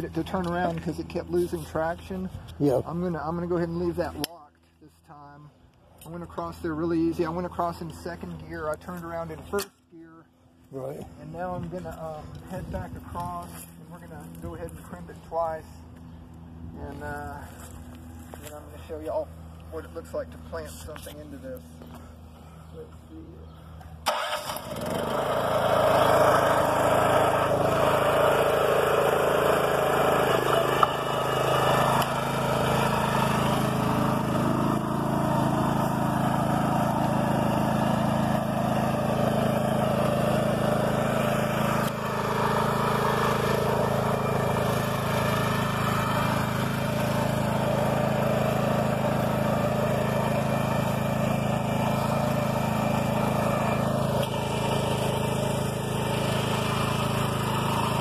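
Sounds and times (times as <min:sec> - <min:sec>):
walk-behind tractor engine droning: 0:00.0 - 0:58.0.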